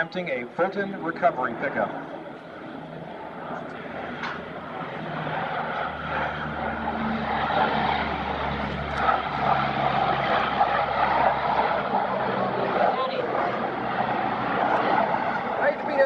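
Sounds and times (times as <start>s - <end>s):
turboprop propeller drone: 0.0s - 16.0s.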